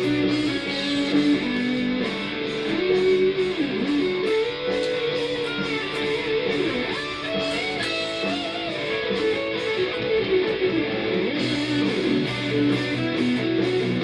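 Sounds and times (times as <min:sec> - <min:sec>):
backing track drums and bass: 0:00.0 - 0:14.0
electric guitar lead with bends: 0:00.0 - 0:14.0.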